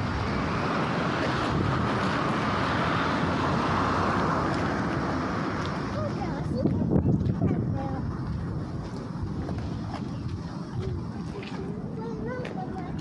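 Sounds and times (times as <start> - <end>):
low rumble of road traffic: 0.0 - 13.0
wind on microphone: 0.0 - 13.0.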